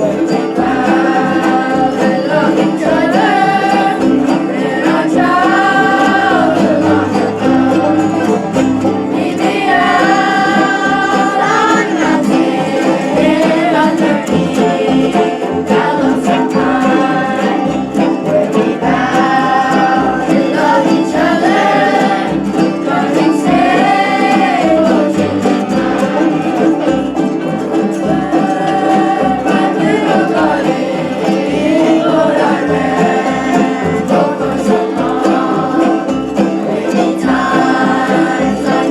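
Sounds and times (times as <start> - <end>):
bluegrass band playing and singing: 0.0 - 38.9.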